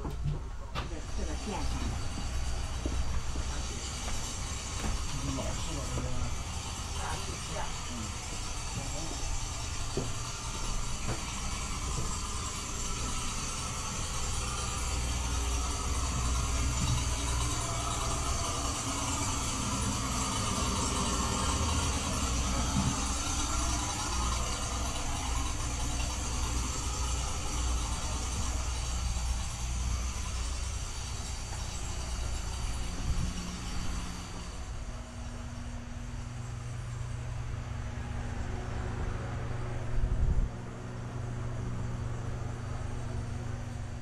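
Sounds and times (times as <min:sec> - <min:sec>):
ventilation fans humming: 0:00.0 - 0:44.0.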